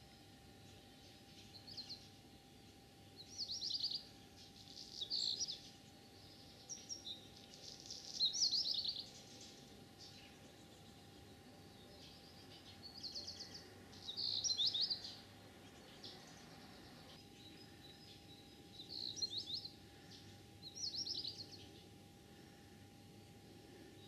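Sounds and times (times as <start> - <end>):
faint steady hum: 0.0 - 24.0
songbirds twittering: 0.0 - 24.0.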